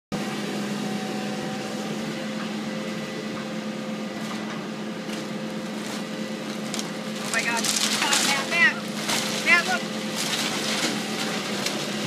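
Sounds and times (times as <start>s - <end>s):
steady mechanical hum: 0.1s - 12.0s.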